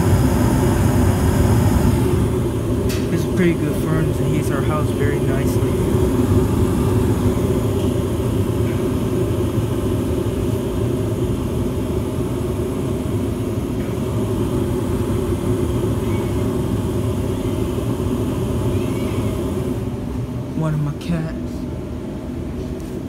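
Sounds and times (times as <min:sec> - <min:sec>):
gas furnace rumbling: 0:00.0 - 0:23.0.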